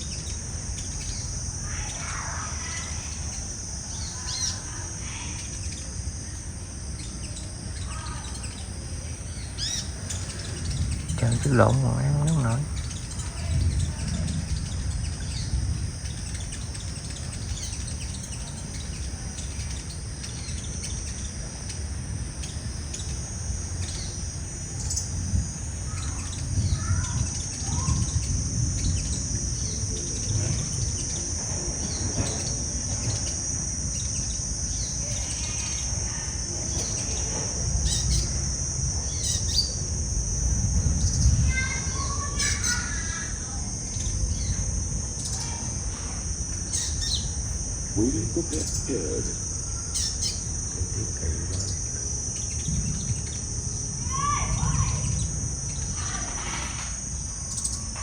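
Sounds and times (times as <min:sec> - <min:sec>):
birds chirping: 0:00.0 - 0:58.0
high-pitched insect drone: 0:00.0 - 0:58.0.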